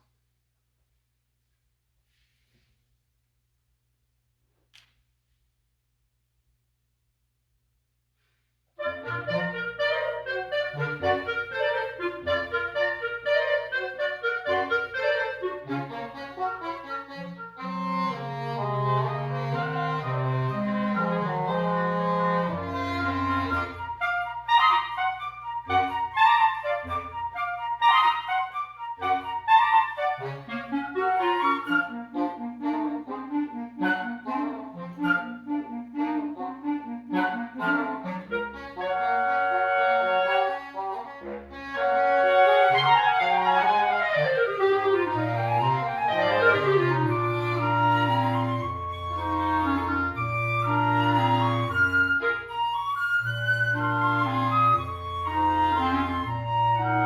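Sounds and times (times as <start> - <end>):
wind quintet chamber music: 8.8 - 57.0.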